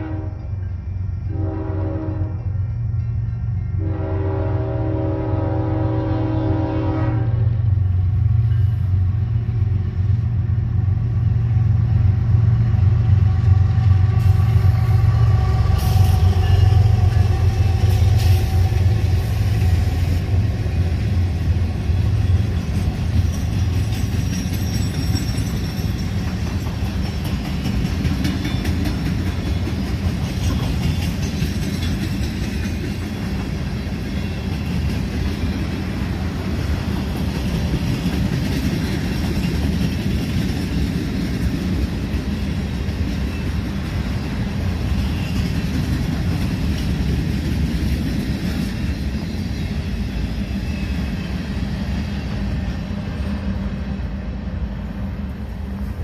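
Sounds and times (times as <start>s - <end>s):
diesel locomotive engine drone: 0.0s - 56.0s
train wheels rolling on track: 0.0s - 56.0s.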